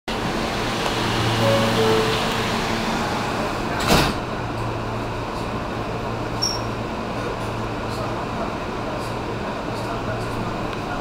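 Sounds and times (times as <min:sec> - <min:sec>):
subway car running in tunnel: 0:00.1 - 0:11.0.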